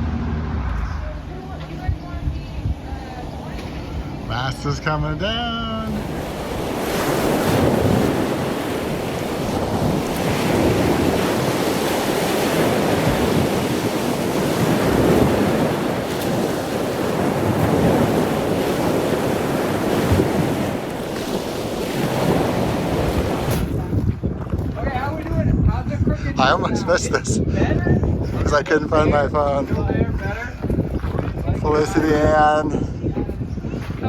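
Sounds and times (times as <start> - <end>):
wind blowing across microphone: 0.0 - 34.0.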